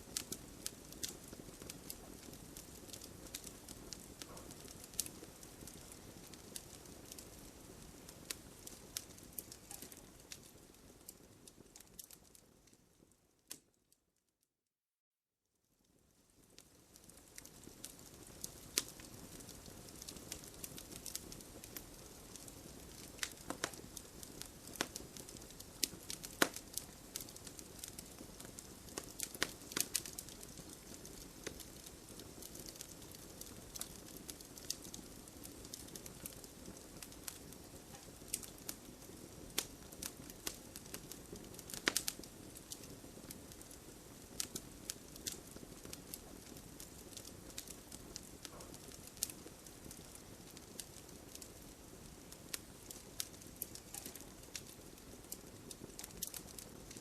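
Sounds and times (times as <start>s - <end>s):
campfire crackling: 0.0s - 13.7s, 16.2s - 57.0s.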